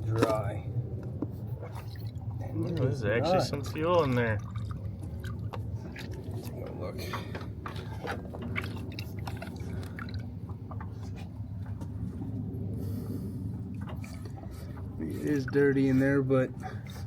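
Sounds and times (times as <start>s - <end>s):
fuel dripping and trickling: 0.0s - 17.0s
steady low hum: 0.0s - 17.0s.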